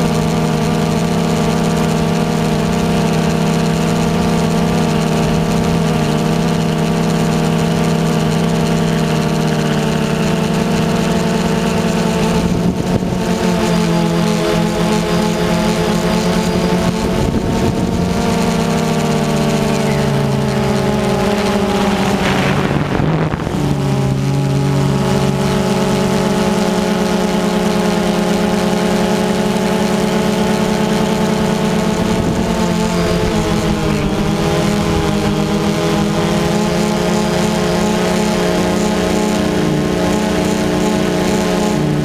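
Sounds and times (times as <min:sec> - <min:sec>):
drone propellers humming: 0:00.0 - 0:42.0.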